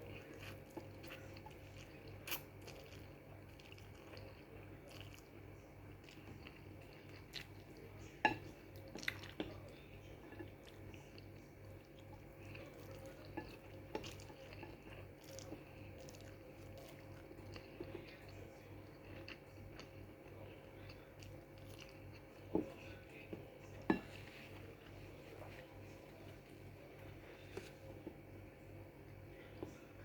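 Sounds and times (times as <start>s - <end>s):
mouth chewing noodles: 0.0s - 27.7s
steady low hum: 0.0s - 30.0s.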